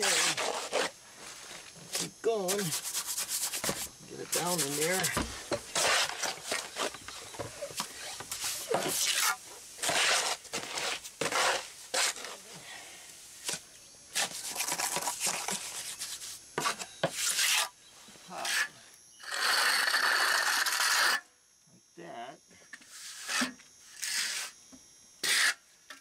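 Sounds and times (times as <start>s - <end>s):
trowel scraping cement mix: 0.0s - 1.0s, 1.9s - 12.5s, 13.5s - 17.7s, 18.3s - 21.2s, 22.8s - 24.6s, 25.2s - 26.0s.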